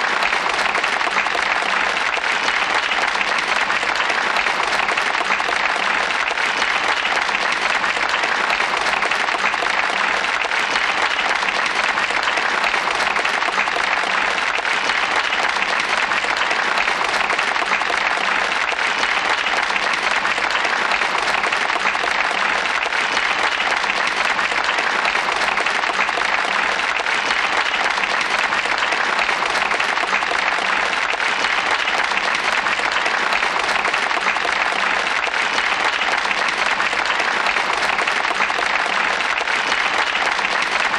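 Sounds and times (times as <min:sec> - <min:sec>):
crowd applauding: 0:00.0 - 0:40.9.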